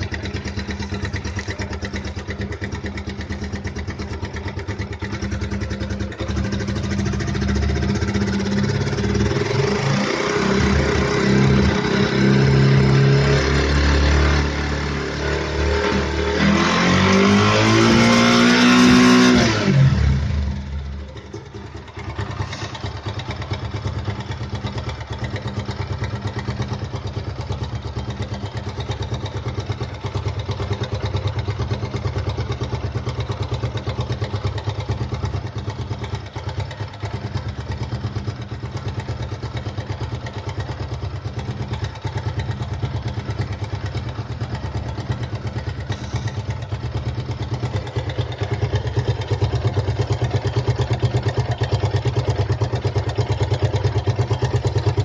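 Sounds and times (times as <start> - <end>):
motorcycle engine revving and idling: 0.0 - 55.0.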